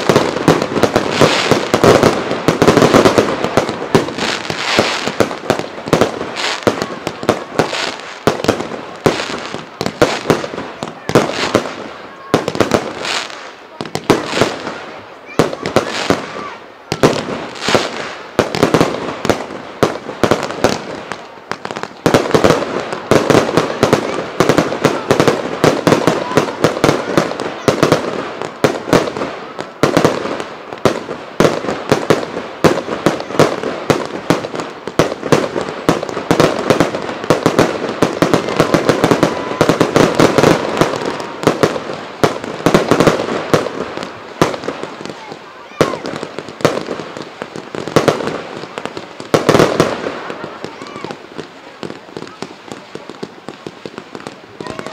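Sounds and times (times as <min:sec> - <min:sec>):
aerial fireworks bursting: 0:00.0 - 0:54.9
fireworks crackle: 0:00.0 - 0:54.9.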